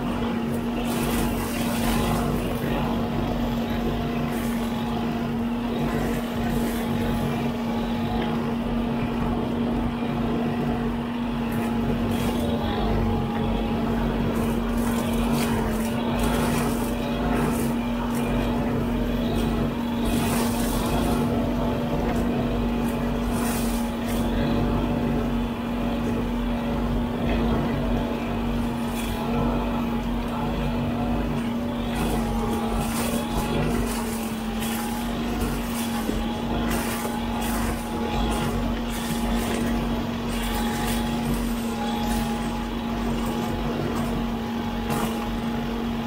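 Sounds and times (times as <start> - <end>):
crackles of cut vegetation: 0.0 - 9.3, 11.1 - 46.0
backhoe loader running: 0.0 - 46.0
brush cutter spinning: 0.0 - 46.0.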